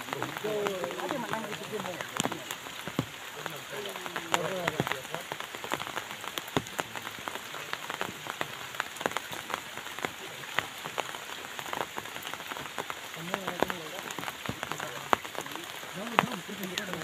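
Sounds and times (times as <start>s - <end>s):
rain falling: 0.0s - 17.0s
raindrops ticking close by: 0.0s - 17.0s.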